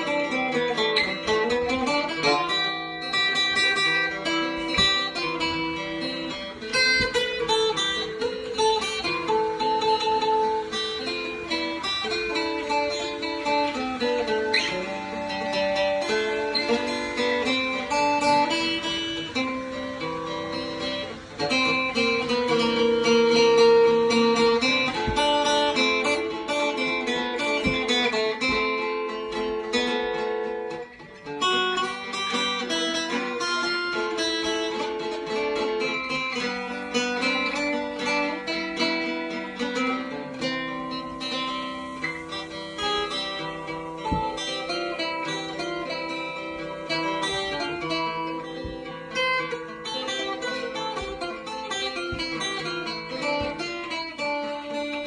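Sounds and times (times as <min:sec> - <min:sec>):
acoustic guitar plucked and strummed: 0:00.0 - 0:55.0.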